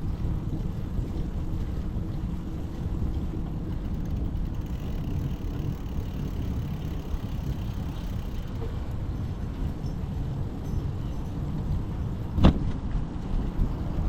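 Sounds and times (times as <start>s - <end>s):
road and traffic noise: 0.0s - 14.0s
wind buffeting microphone: 0.0s - 14.0s.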